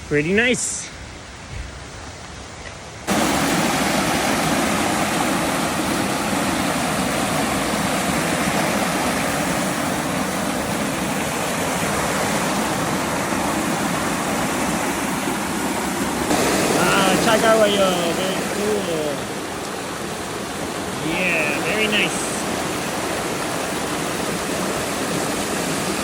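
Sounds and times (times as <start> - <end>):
stream water rushing: 0.3 - 26.0.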